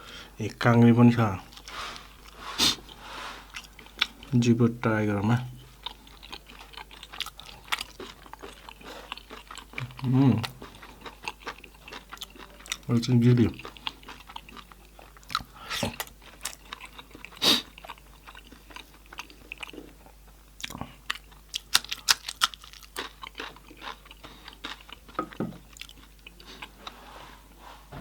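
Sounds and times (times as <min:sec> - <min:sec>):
close-up chewing and biting: 0:01.4 - 0:04.4, 0:05.6 - 0:28.0.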